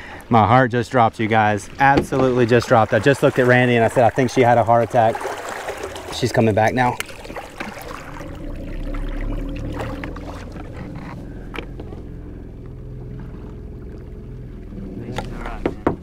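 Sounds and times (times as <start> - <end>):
water washing along hull: 0.0 - 16.0
boat motor running: 1.2 - 16.0.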